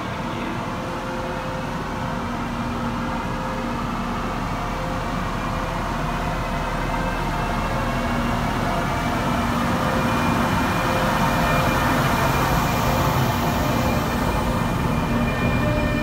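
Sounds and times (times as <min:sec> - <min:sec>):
electric train running: 0:00.0 - 0:16.0.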